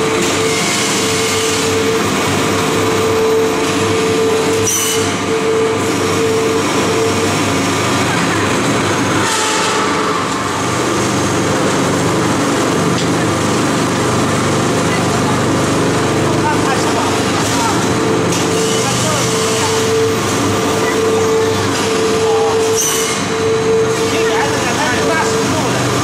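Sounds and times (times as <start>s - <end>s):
machine mechanical drone: 0.0s - 26.0s.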